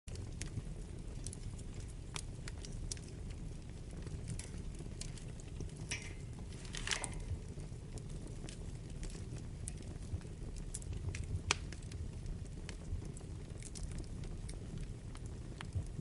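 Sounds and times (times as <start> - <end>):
burning logs crackling and popping: 0.1 - 16.0
fire flames rumbling: 0.1 - 16.0.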